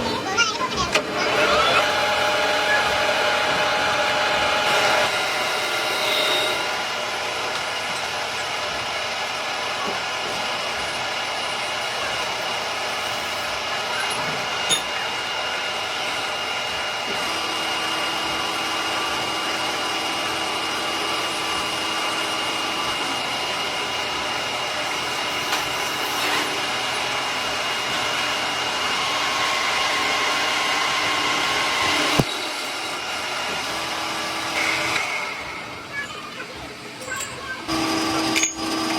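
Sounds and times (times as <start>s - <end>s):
workshop machinery whining: 0.0s - 38.9s.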